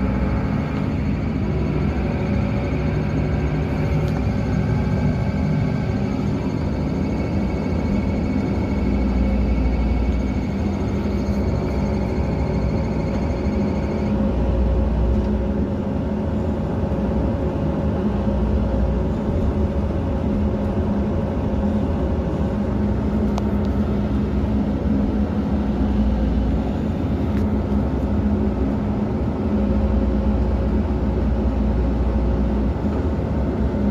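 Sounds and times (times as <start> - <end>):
excavator diesel engine running: 0.0 - 33.9
high steady whine: 0.0 - 33.9.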